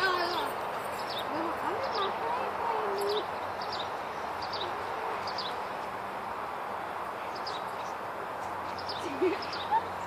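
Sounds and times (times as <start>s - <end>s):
small birds chirping: 0.0s - 5.8s, 7.2s - 10.0s
outdoor background hiss: 0.0s - 10.0s.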